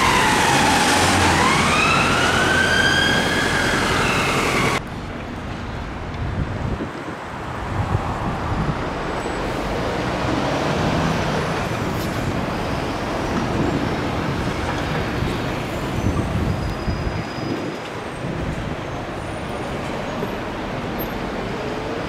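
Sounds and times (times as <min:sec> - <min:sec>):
road traffic engines: 0:00.0 - 0:22.0.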